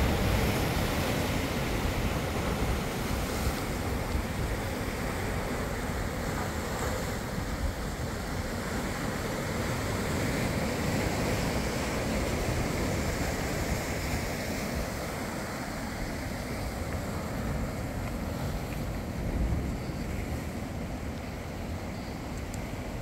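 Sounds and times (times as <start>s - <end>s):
sea surf breaking over rocks: 0.0s - 23.0s
wind buffeting microphone: 0.0s - 23.0s.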